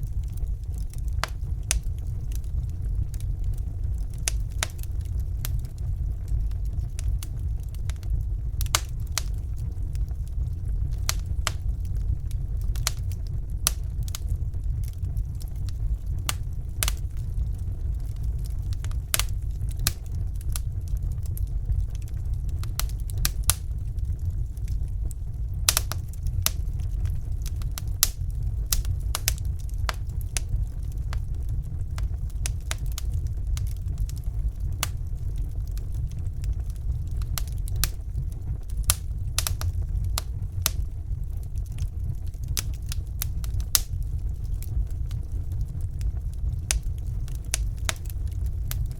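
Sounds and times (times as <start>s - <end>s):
fire low rumble: 0.0s - 48.9s
wood fire crackling and popping: 0.0s - 48.9s.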